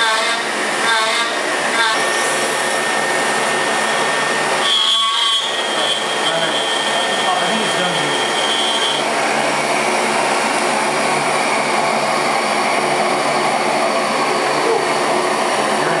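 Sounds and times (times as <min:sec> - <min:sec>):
milling machine whirring: 0:00.0 - 0:16.0.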